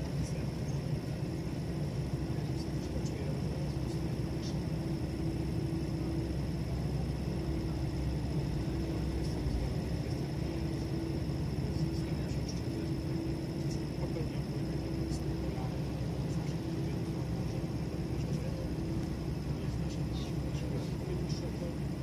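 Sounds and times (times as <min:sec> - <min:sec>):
faint high whine: 0:00.0 - 0:22.0
low mechanical hum: 0:00.0 - 0:22.0.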